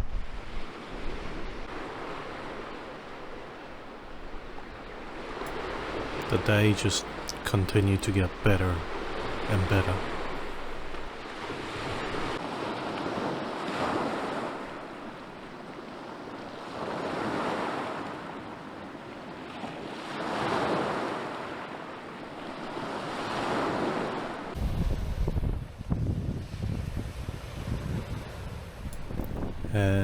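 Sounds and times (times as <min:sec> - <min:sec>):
sea waves washing onto beach: 0:00.0 - 0:30.0.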